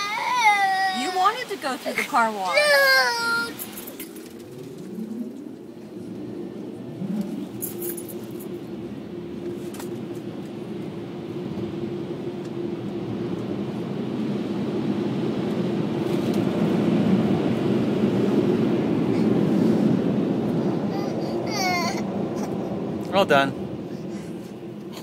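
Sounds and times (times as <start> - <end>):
car wash air blowers: 0.0 - 25.0.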